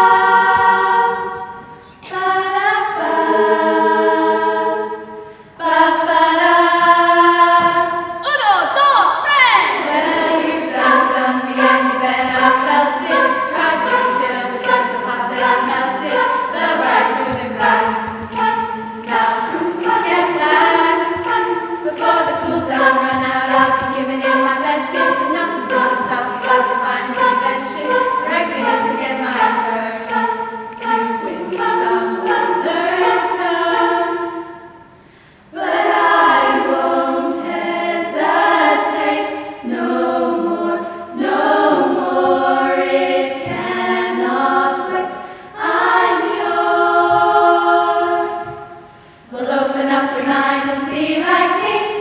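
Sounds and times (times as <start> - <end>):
girls' choir singing: 0.0 - 8.3, 9.6 - 52.0.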